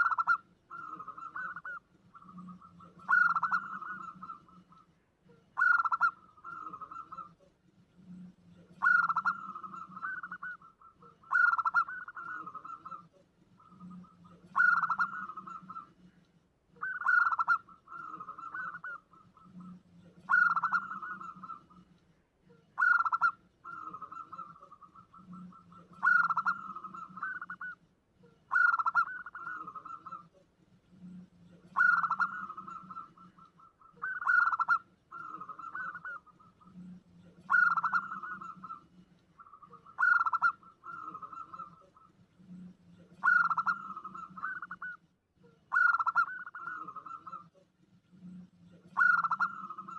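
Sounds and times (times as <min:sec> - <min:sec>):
dove cooing: 0:00.0 - 0:47.6, 0:48.2 - 0:49.9.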